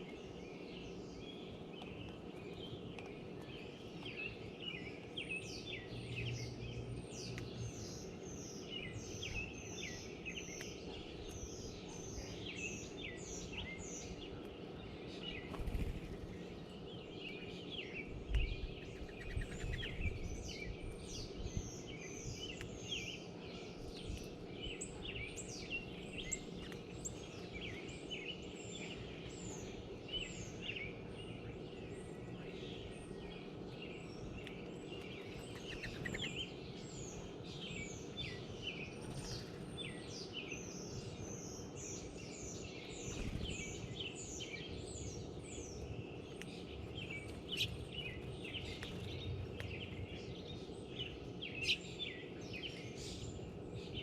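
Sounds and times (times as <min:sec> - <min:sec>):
low background hum: 0:00.0 - 0:54.0
songbirds chirping: 0:00.0 - 0:54.0.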